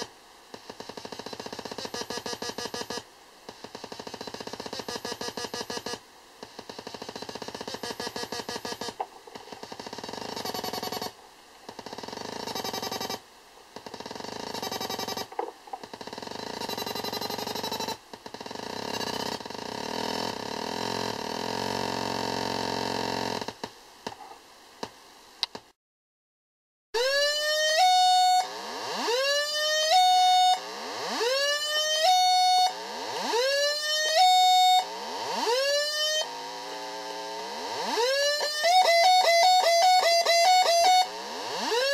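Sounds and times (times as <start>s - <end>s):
harsh buzzy square-wave tones: 0.0s - 23.6s, 27.5s - 41.9s.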